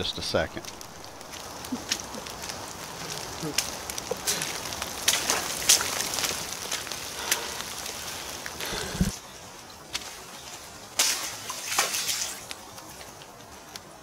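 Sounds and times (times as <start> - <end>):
rain falling: 0.0 - 14.0
water splashing: 0.6 - 9.2, 9.8 - 13.7.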